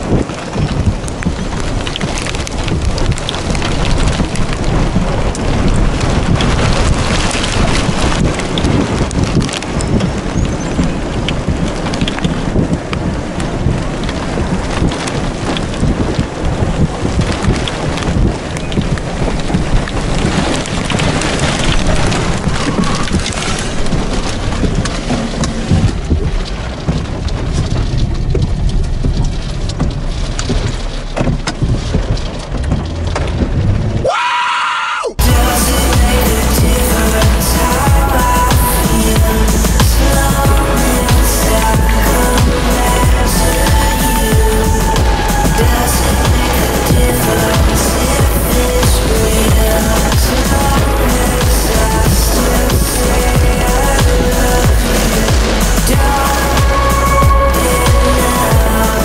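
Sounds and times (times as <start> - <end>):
wind buffeting microphone: 0.0 - 34.0, 35.2 - 59.0
rain ticking on microphone: 0.0 - 59.0.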